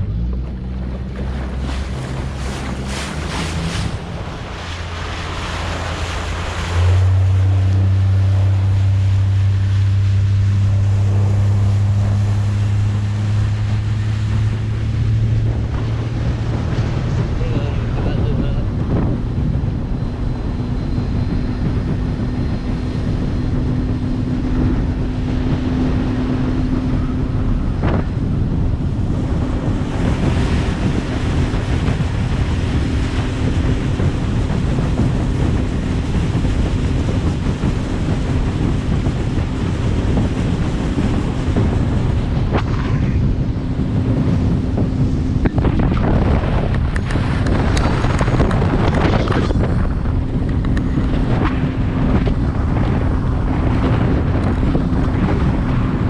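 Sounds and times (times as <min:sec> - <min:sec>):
boat engine running: 0:00.0 - 0:56.0
water wash: 0:00.0 - 0:56.0
wind noise on microphone: 0:00.0 - 0:56.0.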